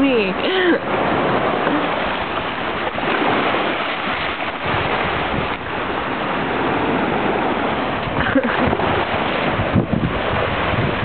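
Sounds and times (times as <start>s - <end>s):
surf breaking against quay: 0.0s - 11.0s
water rushing across paving: 0.0s - 11.0s.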